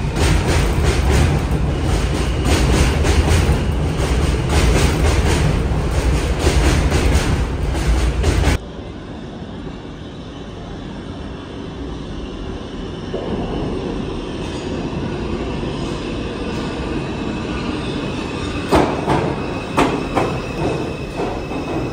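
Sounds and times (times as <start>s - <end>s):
subway train rumble: 0.0s - 21.9s.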